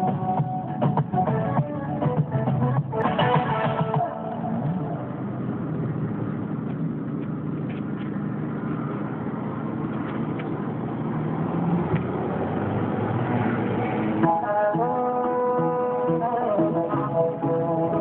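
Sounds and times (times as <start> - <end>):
street traffic noise: 0.0 - 18.0
car engine idling: 0.2 - 17.8.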